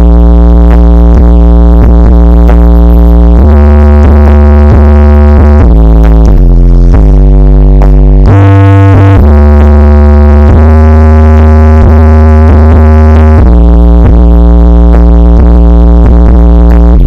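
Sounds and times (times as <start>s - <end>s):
electronic dance music: 0.0s - 17.0s
heavy synthesizer bass: 0.0s - 17.0s.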